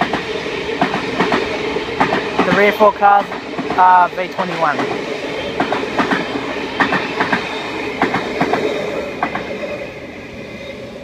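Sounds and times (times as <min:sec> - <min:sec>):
train wheels clacking over rail joints: 0:00.0 - 0:09.6.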